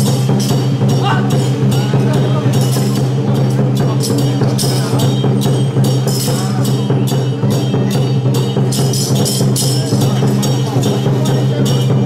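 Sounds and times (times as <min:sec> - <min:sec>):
cymbal clashes: 0:00.0 - 0:12.0
percussion ensemble playing: 0:00.0 - 0:12.0.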